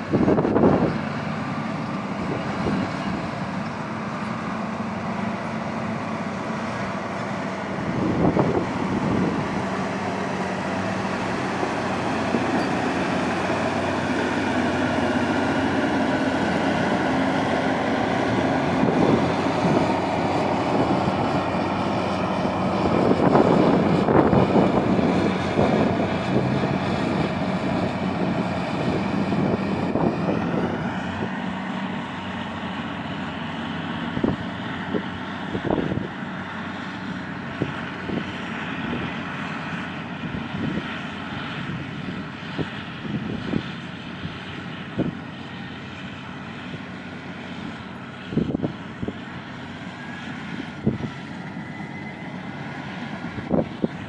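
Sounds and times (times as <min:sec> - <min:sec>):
heavy diesel machines running: 0:00.0 - 0:54.0.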